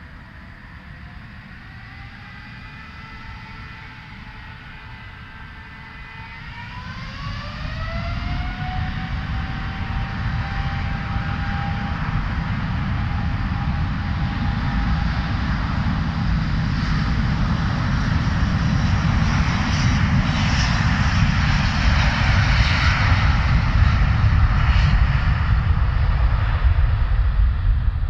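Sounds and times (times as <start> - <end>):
jet engines at takeoff thrust: 0.0 - 28.0.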